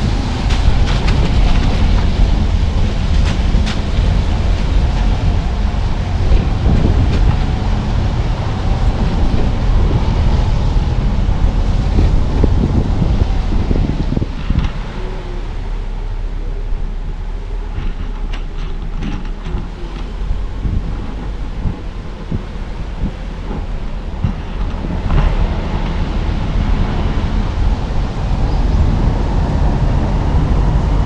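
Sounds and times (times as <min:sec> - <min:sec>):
car driving road noise: 0:00.0 - 0:31.0.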